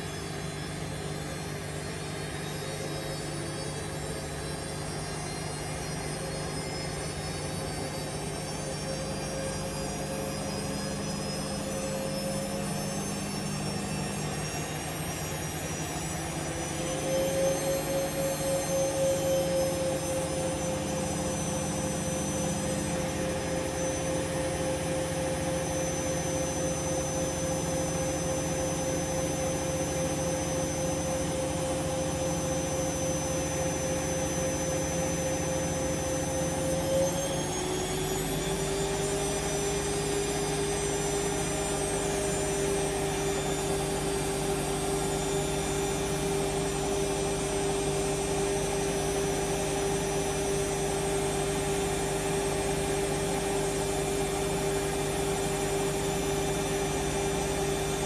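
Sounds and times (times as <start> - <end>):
washing machine motor whine: 0.0 - 58.0.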